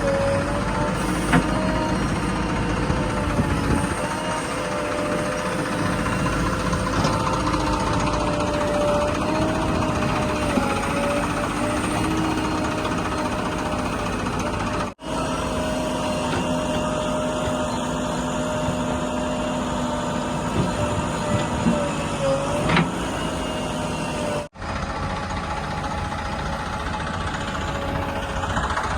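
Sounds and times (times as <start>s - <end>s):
diesel engine running under load: 0.0s - 28.9s
hydraulic whine: 0.0s - 28.9s.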